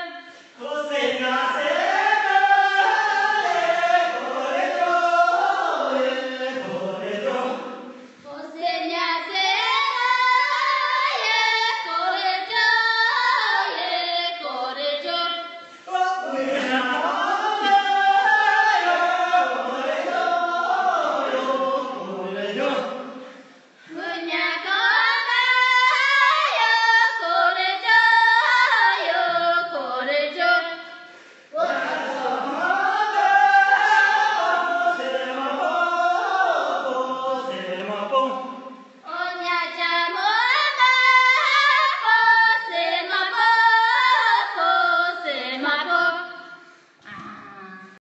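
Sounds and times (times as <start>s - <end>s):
voices singing: 0.0s - 48.0s.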